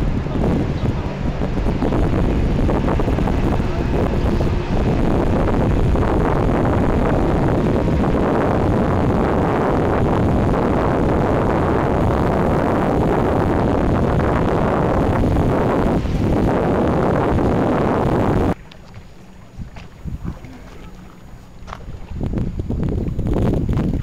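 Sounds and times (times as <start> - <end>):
boat engine running: 0.0 - 24.0
wind rumbling on microphone: 0.0 - 24.0.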